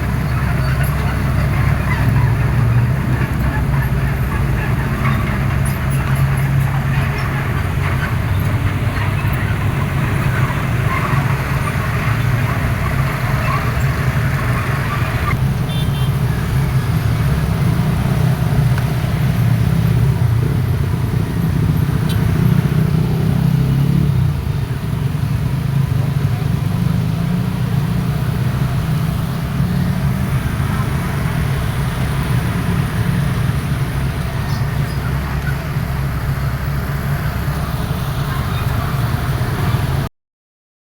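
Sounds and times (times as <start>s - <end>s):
excavator diesel engine running: 0.0s - 23.0s, 27.7s - 40.1s.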